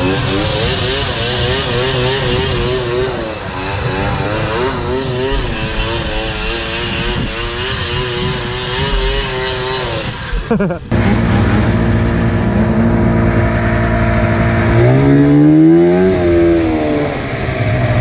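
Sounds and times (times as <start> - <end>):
snowmobile engine revving high: 0.0 - 18.0.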